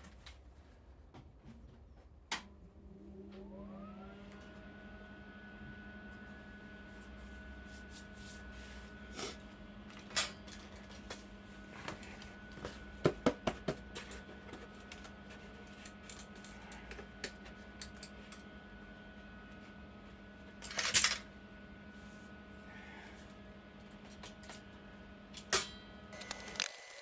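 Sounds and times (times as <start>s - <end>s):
small machine humming: 2.5s - 27.0s.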